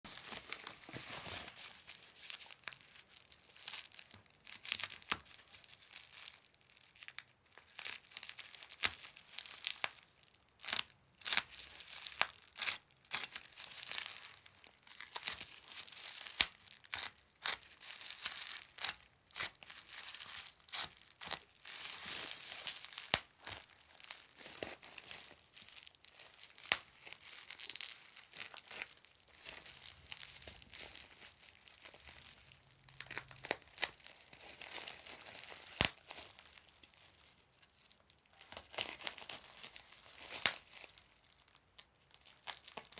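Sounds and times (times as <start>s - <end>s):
packaging crinkling and tearing: 0.1s - 42.9s.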